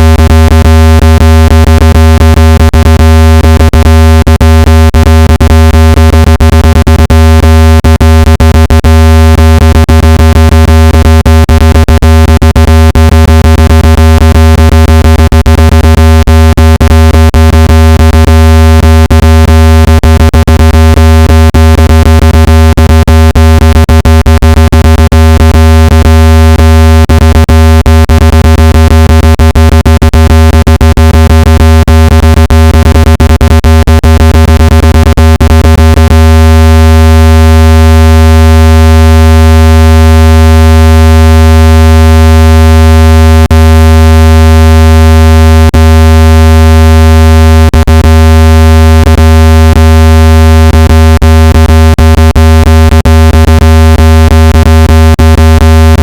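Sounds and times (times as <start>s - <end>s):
synthesized low-pitched buzz: 0.0s - 56.0s.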